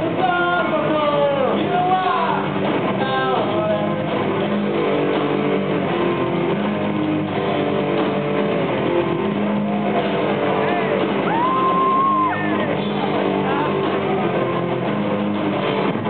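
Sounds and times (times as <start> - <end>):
bass: 0.0 - 16.0
drums: 0.0 - 16.0
electric guitars: 0.0 - 16.0.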